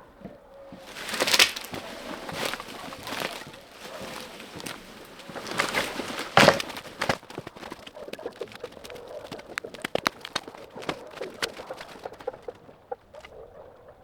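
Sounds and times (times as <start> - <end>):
hard objects knocking together: 0.8 - 12.5.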